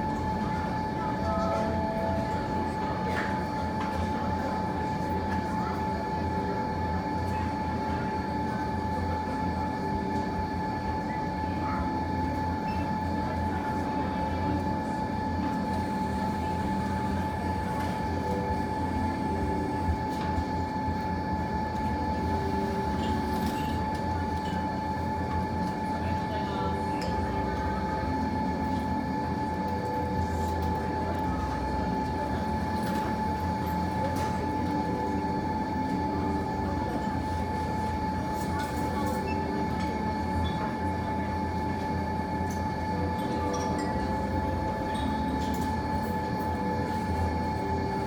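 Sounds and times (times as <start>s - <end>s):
constant high hum: 0.0s - 48.0s.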